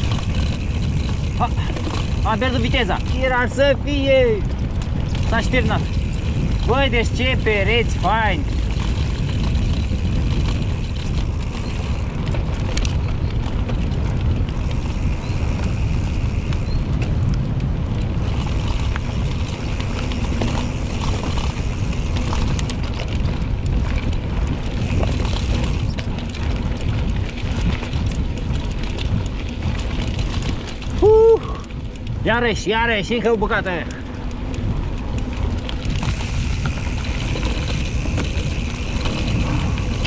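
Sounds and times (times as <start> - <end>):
tyre noise: 0.0 - 33.0, 33.6 - 40.0
bike rattles and clicks: 0.0 - 40.0
wind buffeting microphone: 0.0 - 40.0.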